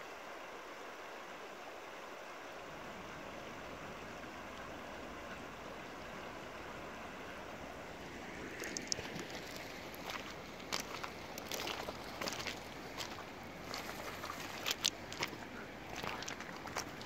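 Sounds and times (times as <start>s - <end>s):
river water running over stones: 0.0s - 17.0s.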